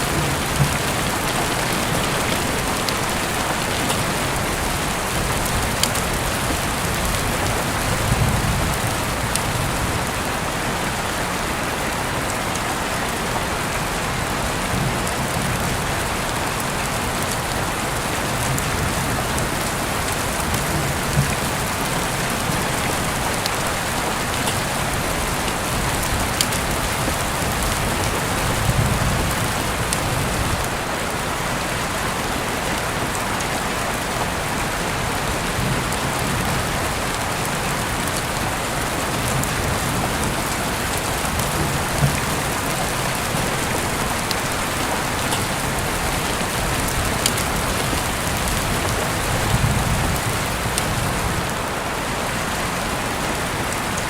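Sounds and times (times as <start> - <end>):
raindrops tapping: 0.0 - 10.6, 14.4 - 30.9, 35.2 - 51.6
heavy rain falling: 0.0 - 54.0.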